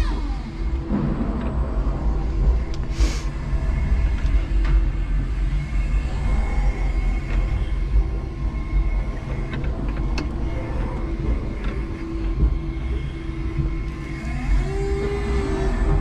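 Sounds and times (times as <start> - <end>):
forklift rumble with electric whine: 0.0 - 16.0
loud electric whine: 0.0 - 16.0.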